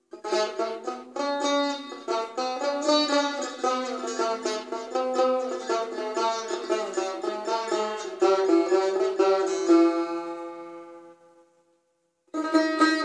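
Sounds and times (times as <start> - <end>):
plucked lute notes: 0.0 - 11.5, 12.3 - 13.0.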